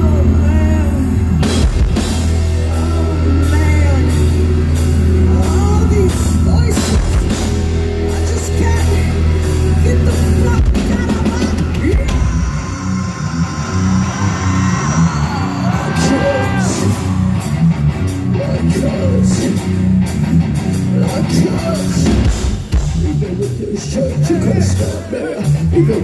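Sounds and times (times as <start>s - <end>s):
heavy metal band playing live: 0.0s - 26.0s.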